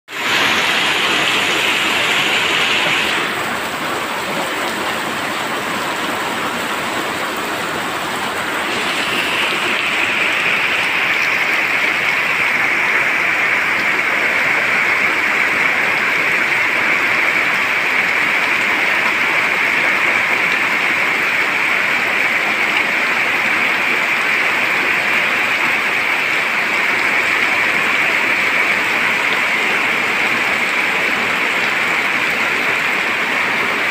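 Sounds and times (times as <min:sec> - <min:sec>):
rain splashing into puddles: 0:00.1 - 0:33.9.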